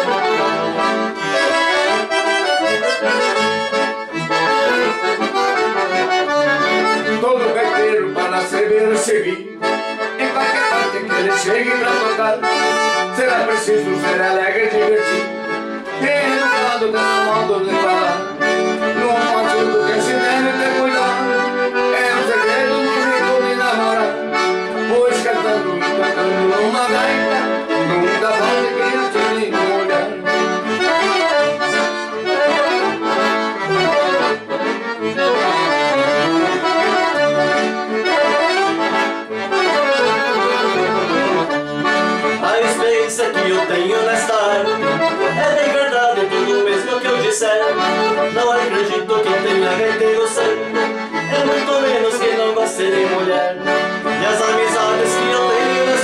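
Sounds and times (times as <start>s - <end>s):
accordion duet: 0.0s - 56.0s.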